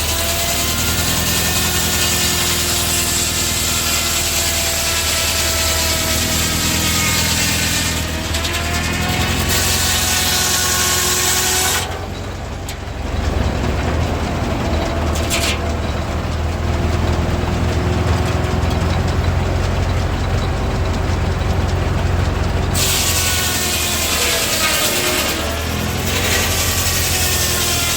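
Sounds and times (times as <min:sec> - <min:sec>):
engine low drone: 0:00.0 - 0:27.9
saw blade whine: 0:00.0 - 0:27.9.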